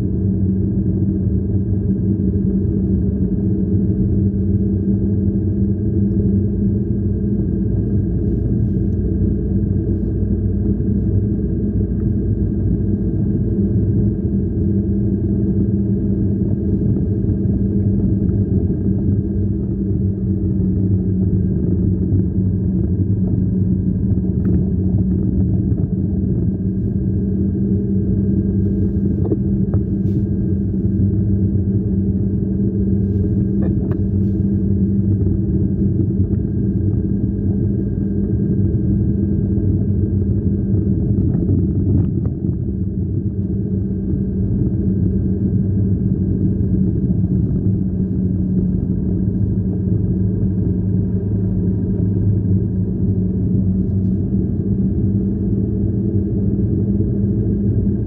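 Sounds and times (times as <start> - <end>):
car engine and tyres rumbling: 0.0 - 58.0
droning hum: 0.0 - 58.0.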